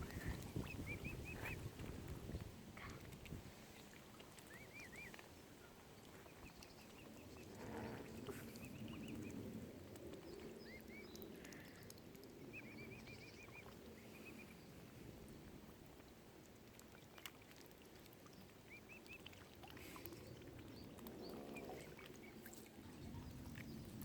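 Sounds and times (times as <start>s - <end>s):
cygnets peeping faintly: 0.0s - 24.0s.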